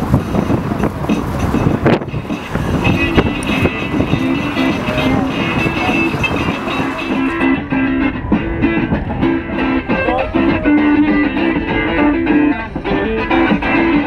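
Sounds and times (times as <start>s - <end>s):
electric guitar melody: 0.6s - 14.0s.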